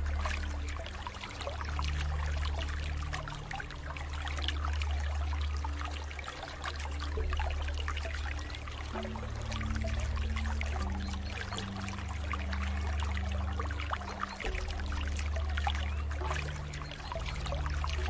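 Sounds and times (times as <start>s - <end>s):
low sustained tones: 0.0s - 18.0s
water trickling and splashing: 0.0s - 18.0s.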